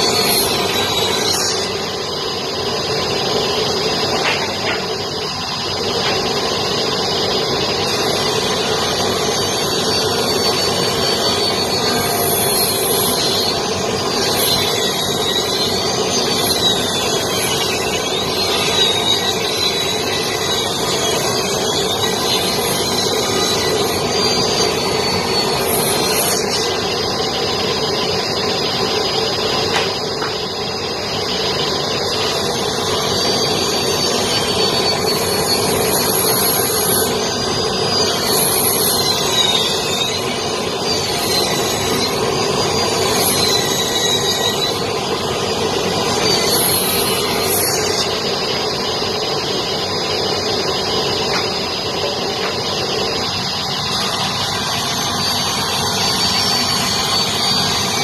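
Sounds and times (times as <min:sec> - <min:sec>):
table saw cutting boards: 0:00.0 - 0:58.0.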